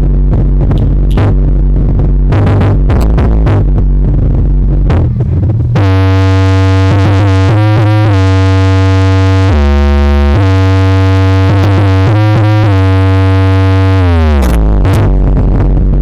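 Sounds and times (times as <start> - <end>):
buzzy synth note with pitch bends: 0.0 - 16.0.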